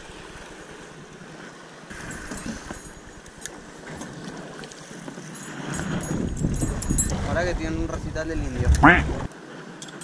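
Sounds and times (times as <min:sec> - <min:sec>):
wind and water hiss: 0:00.0 - 0:10.0.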